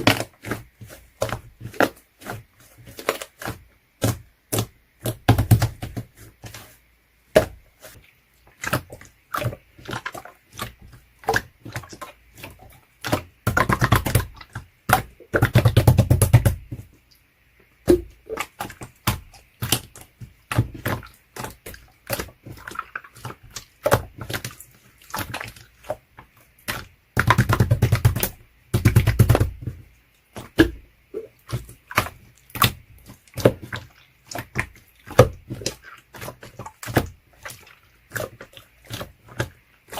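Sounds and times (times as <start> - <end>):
hands squishing slime: 0.0 - 17.1, 17.8 - 39.9.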